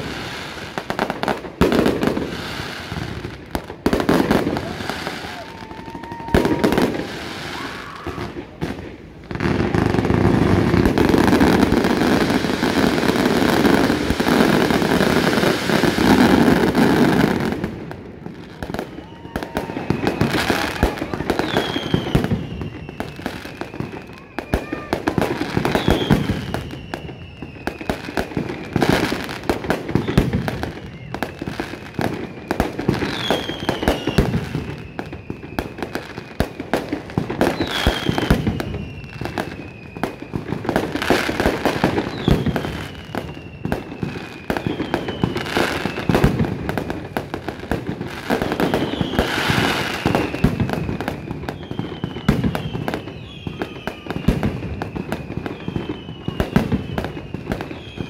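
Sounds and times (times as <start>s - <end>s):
falling firework whistles: 0.0s - 58.0s
fireworks bangs and crackling: 0.0s - 58.0s.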